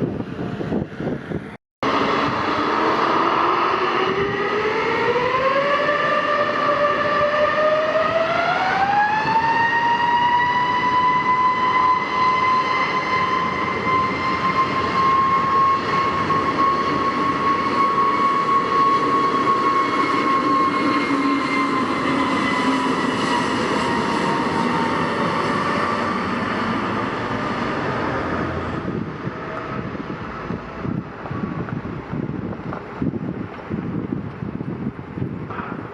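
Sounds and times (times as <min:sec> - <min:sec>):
broad rushing roar: 0:00.0 - 0:35.9
jet engines whining: 0:00.0 - 0:35.9.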